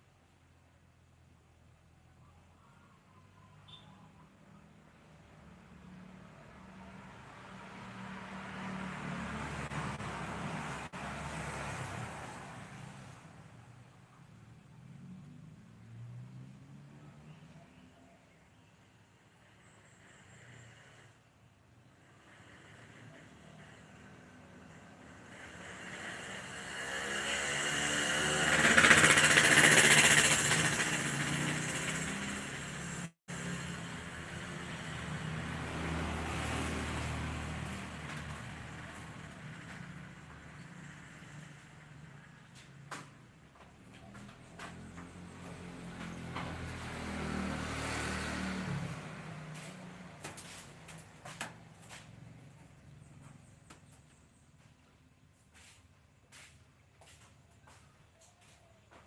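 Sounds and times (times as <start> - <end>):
motor vehicle passing: 3.3 - 59.0.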